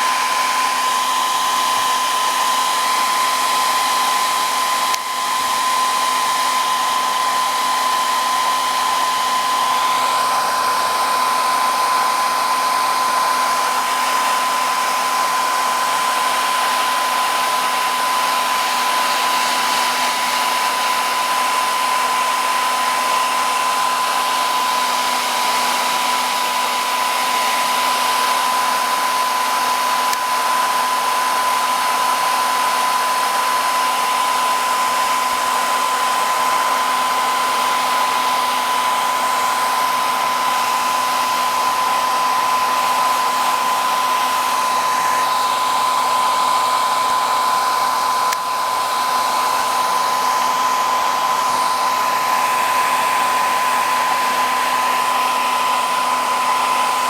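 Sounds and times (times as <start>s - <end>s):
hot-air blower running: 0.0s - 57.0s.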